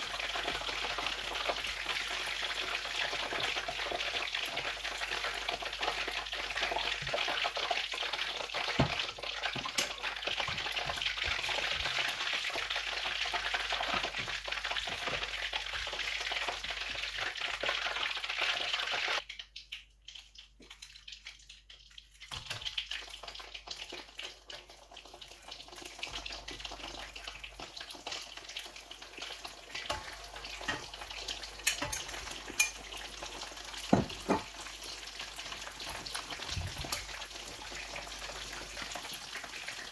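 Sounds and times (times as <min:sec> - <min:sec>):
chicken frying in hot oil: 0:00.0 - 0:39.9.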